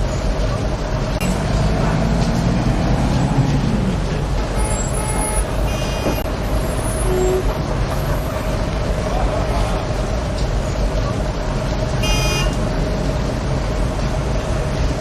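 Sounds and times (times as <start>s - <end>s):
heavy vehicle engine: 0.0s - 15.0s
road traffic rumble: 0.0s - 15.0s.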